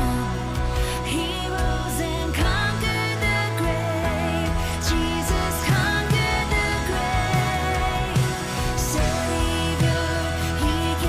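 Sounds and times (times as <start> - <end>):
person singing wavering vocal: 0.0 - 11.0
steady bass: 0.0 - 11.0
sustained instrumental chords: 0.0 - 11.0.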